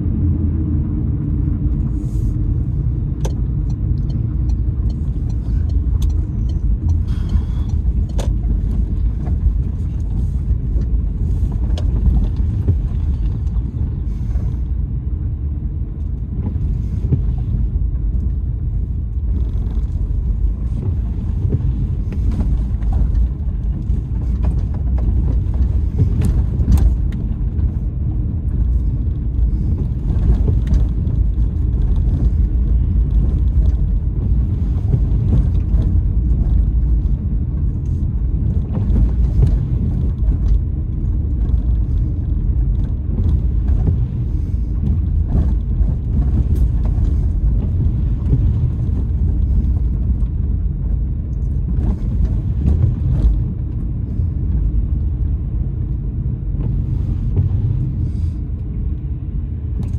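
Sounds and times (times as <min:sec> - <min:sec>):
car rattling over bumps: 0:00.0 - 0:59.9
tyre and engine rumble: 0:00.0 - 0:59.9.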